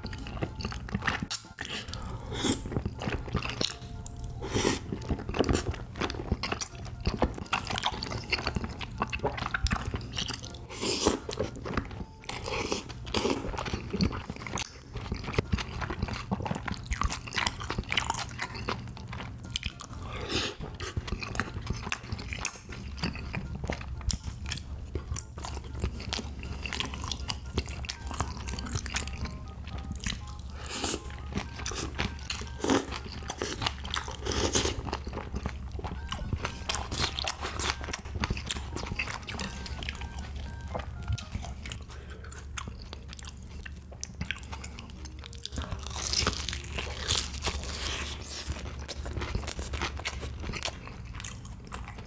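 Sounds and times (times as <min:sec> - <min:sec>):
open-mouthed chewing: 0:00.0 - 0:52.0.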